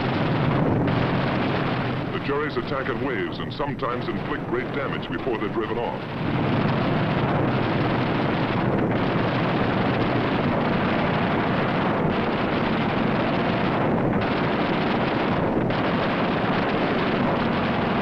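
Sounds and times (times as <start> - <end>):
piston aircraft engines roaring: 0.0 - 18.0.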